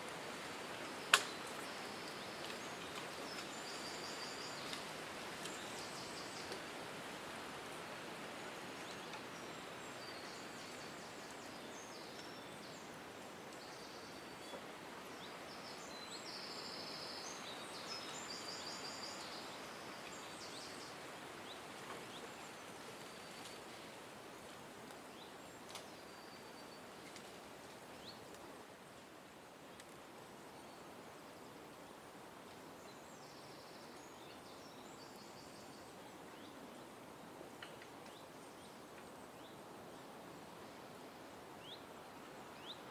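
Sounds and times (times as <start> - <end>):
outdoor background hiss: 0.0 - 42.9.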